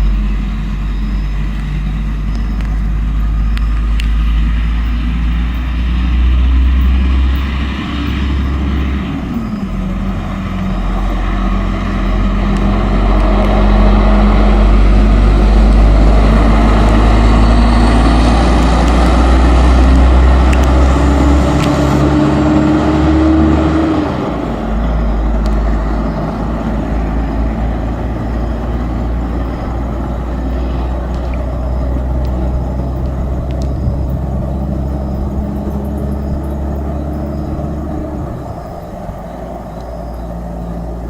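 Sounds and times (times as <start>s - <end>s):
coach diesel engine under load: 0.0s - 41.0s.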